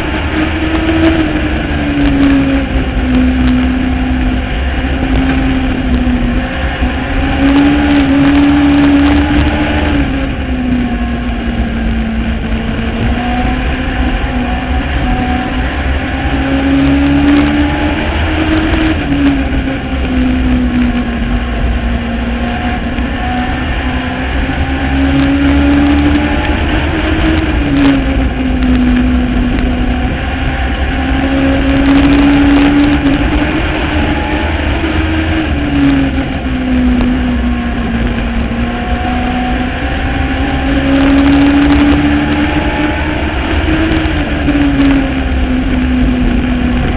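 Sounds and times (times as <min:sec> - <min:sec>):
race car engine revving: 0:00.0 - 0:46.9.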